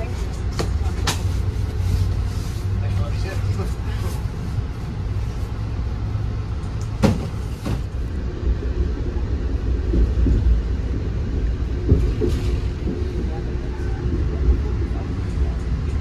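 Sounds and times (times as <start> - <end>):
train car rumbling: 0.0 - 16.0.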